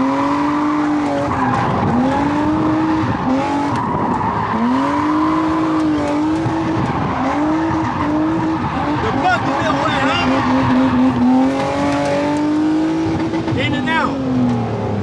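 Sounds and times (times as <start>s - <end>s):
tire screech: 0.0s - 14.6s
car engine revving hard: 0.0s - 15.0s.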